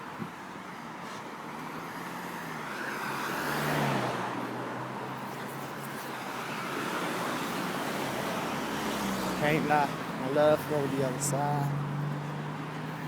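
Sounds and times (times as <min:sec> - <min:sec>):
car passing close by: 0:01.6 - 0:05.2, 0:06.1 - 0:13.0.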